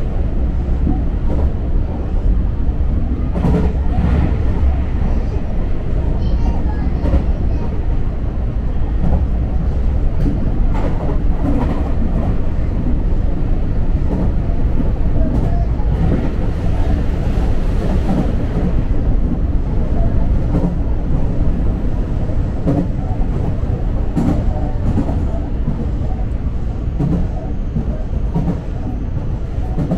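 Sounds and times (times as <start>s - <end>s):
oncoming train rushing past: 0.0s - 29.9s
train wheels rumbling on rail: 0.0s - 29.9s.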